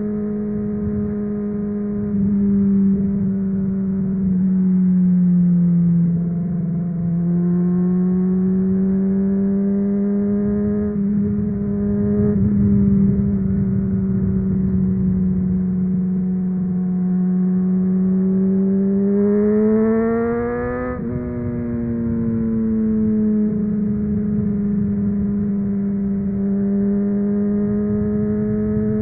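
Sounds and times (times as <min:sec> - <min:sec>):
motorcycle engine revving: 0:00.0 - 0:29.0
wind and road rumble: 0:00.0 - 0:29.0.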